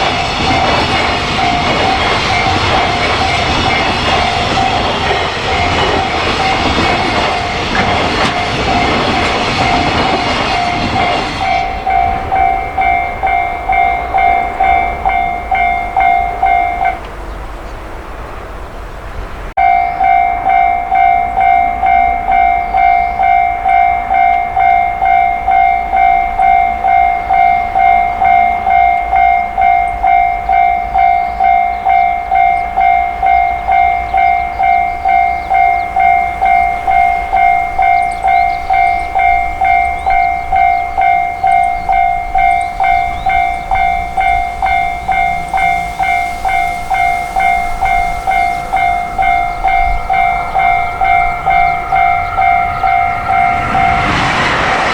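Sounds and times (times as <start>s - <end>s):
level crossing warning bell: 0.0s - 17.4s, 19.6s - 54.9s.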